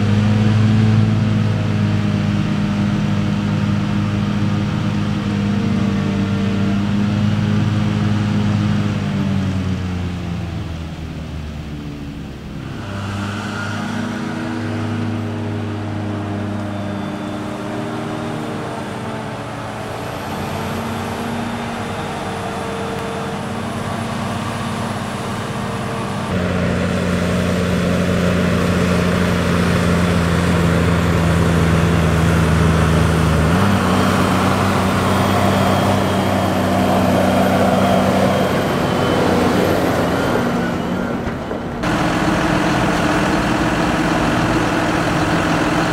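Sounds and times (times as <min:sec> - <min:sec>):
diesel engines running: 0:00.0 - 0:45.9.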